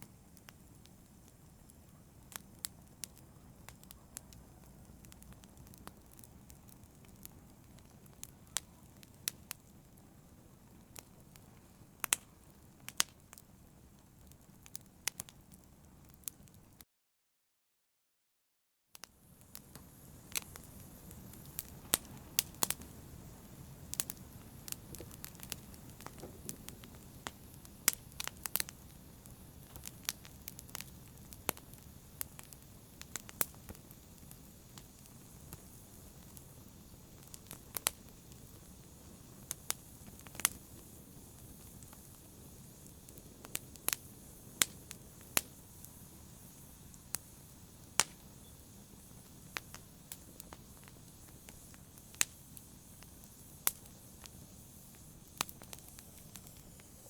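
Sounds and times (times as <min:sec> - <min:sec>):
low steady hiss: 0:00.0 - 0:16.7, 0:19.0 - 0:57.0
fire crackling and popping: 0:00.0 - 0:16.8, 0:19.0 - 0:57.0.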